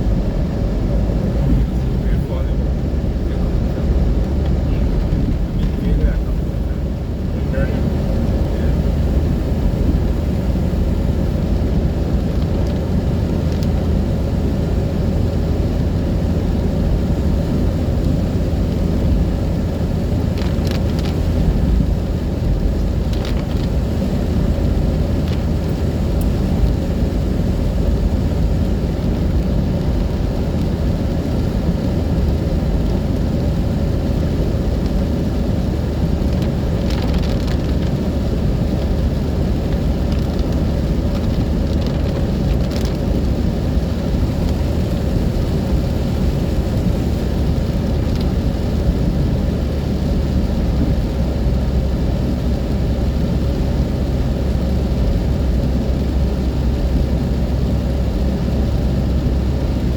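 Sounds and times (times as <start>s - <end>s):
car engine and tyres rumbling: 0.0s - 59.9s
rain: 0.1s - 59.9s.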